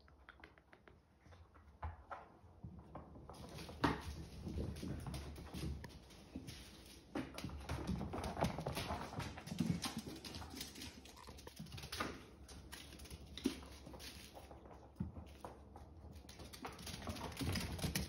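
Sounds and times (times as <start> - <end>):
kittens scampering on a floor: 0.6 - 18.0.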